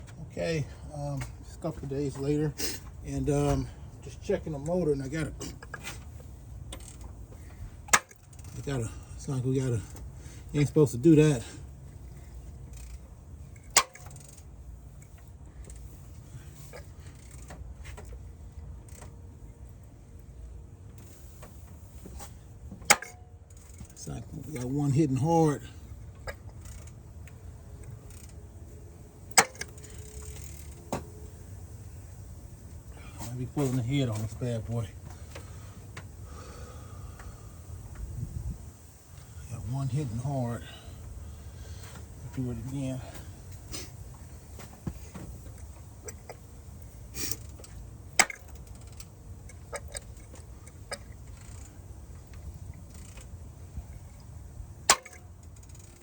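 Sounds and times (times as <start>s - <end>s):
engine running with low rumble: 0.0s - 56.0s.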